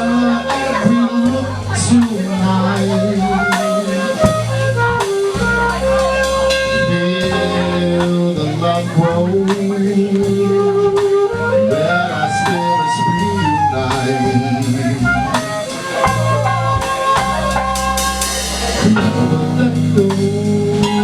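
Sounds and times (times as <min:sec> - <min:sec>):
jazz-funk band playing: 0:00.0 - 0:21.0.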